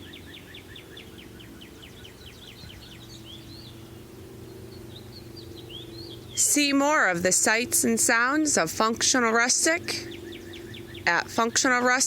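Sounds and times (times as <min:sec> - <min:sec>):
songbird chirping: 0:00.0 - 0:12.0
steady low hum: 0:00.0 - 0:12.0.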